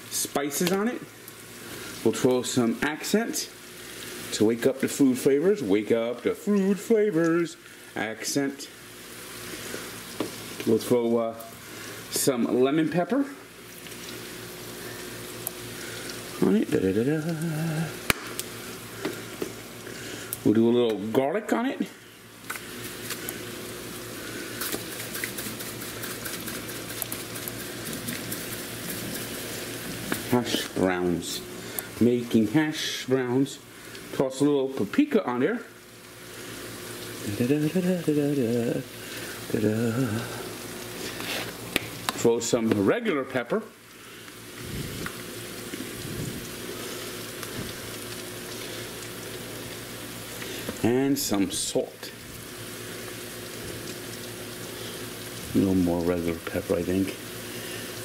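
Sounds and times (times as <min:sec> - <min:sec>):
potatoes frying in hot oil: 0:00.0 - 0:58.0.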